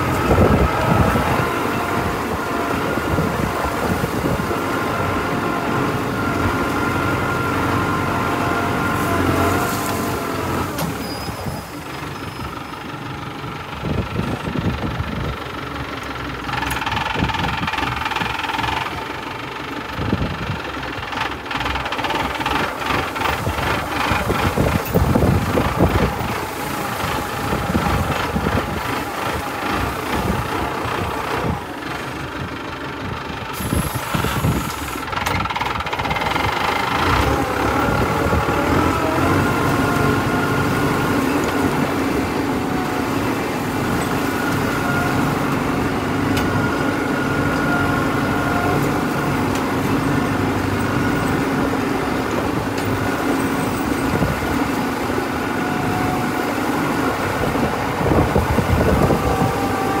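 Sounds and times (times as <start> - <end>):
tractor engine running under load: 0.0 - 60.0.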